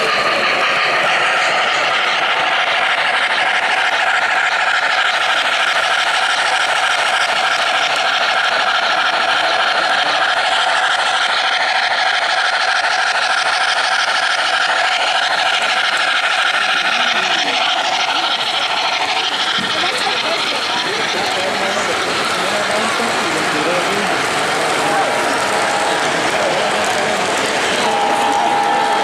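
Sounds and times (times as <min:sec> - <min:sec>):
model train wheels rattling on track: 0:00.0 - 0:29.0.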